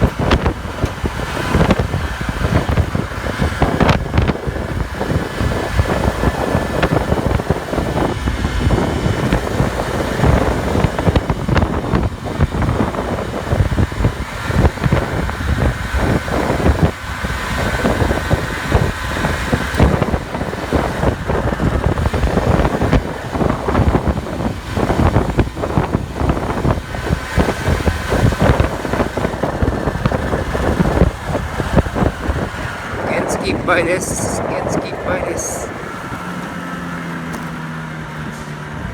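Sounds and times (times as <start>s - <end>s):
scooter engine running: 0.0s - 38.9s
wind buffeting microphone: 0.0s - 38.9s.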